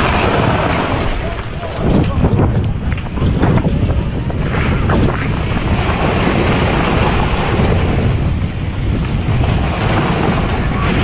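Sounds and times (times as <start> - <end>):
loud rushing noise: 0.0 - 11.0
wind buffeting microphone: 0.0 - 11.0.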